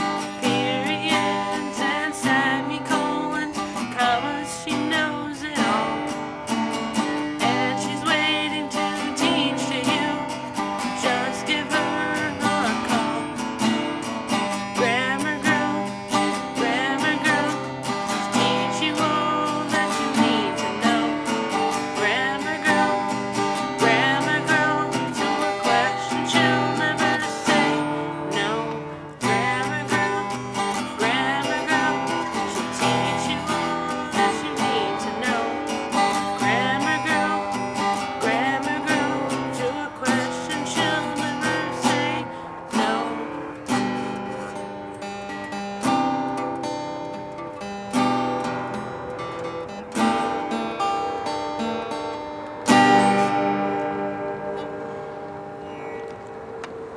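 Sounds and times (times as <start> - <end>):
strummed acoustic guitar music: 0.0 - 56.9.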